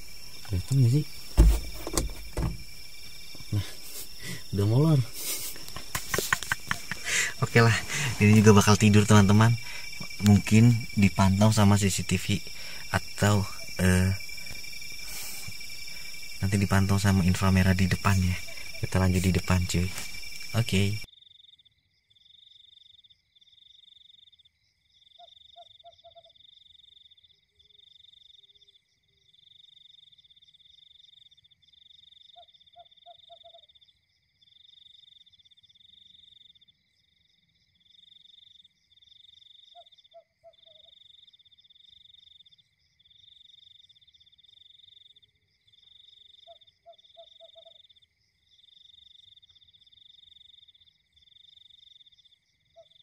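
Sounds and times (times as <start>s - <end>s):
frog croaking: 0.0s - 21.6s, 25.0s - 36.7s, 37.8s - 53.0s
insects trilling: 0.0s - 53.0s.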